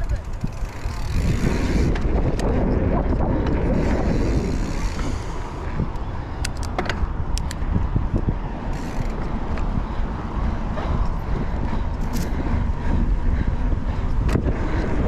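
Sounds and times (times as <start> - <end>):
bike clicks and rattles: 0.0 - 15.0
wind buffeting microphone: 0.0 - 15.0.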